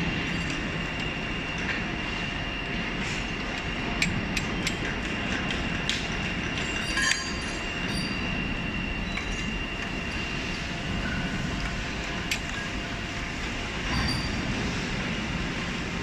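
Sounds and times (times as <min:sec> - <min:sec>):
workshop machinery whine: 0:00.0 - 0:16.0.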